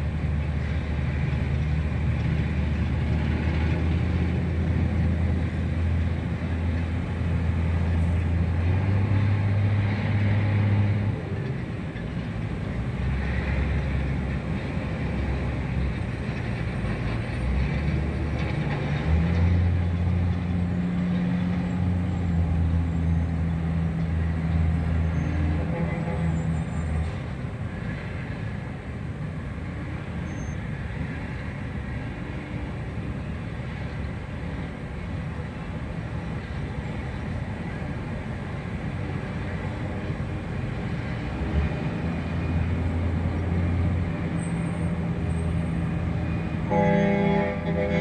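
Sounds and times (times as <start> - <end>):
motor vehicle engine hum: 0.0 - 48.0
street noise: 0.0 - 48.0.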